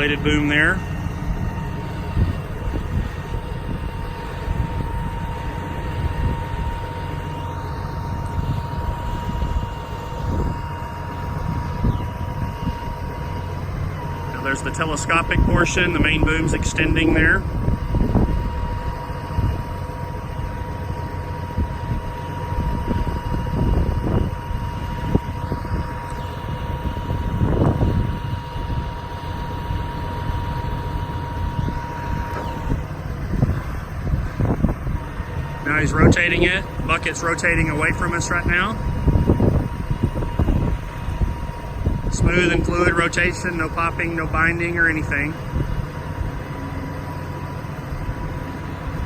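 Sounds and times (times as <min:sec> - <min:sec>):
diesel engine rumbling: 0:00.0 - 0:49.0
thin constant whine: 0:00.0 - 0:49.0.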